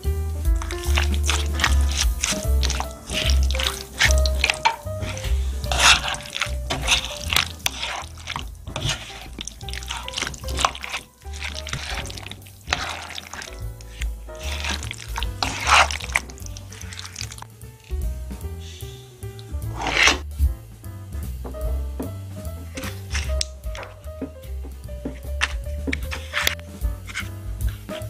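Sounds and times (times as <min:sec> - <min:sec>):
background music with bass: 0:00.0 - 0:28.0
squishy stirring in frying pan: 0:00.5 - 0:20.4, 0:22.6 - 0:28.0.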